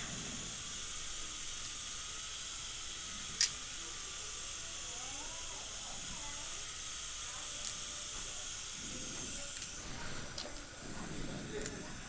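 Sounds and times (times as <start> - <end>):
dental equipment hissing: 0.0 - 12.0.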